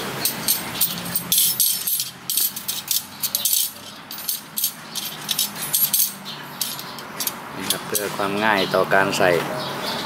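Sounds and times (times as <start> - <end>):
metal spokes clinking: 0.2 - 8.4.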